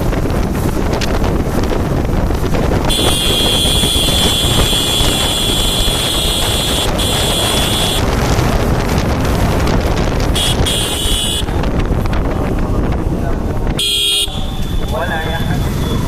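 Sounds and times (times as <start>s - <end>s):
motorcycle engine and road noise: 0.0s - 16.0s
wind buffeting microphone: 0.0s - 16.0s.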